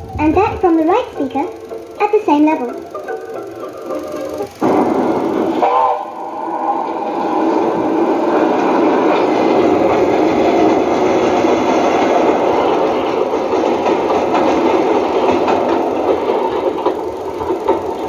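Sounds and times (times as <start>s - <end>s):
film projector running: 0.0s - 18.0s.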